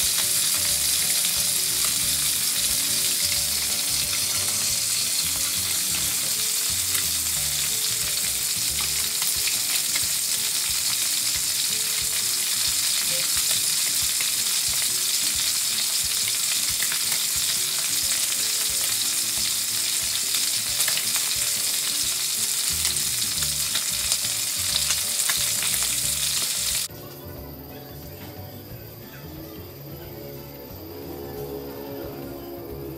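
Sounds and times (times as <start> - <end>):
hot oil sizzling: 0.0 - 26.9.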